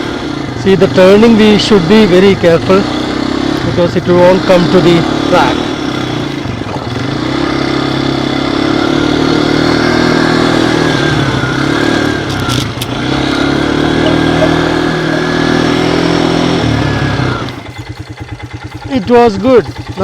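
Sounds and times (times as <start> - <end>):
quad bike engine: 0.0 - 20.0.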